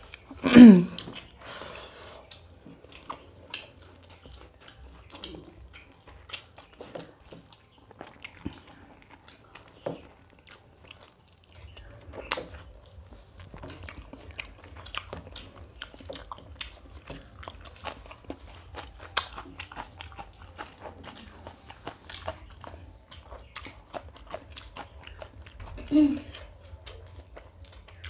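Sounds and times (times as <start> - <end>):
wet chewing clicks: 0.0 - 1.4, 2.0 - 28.0.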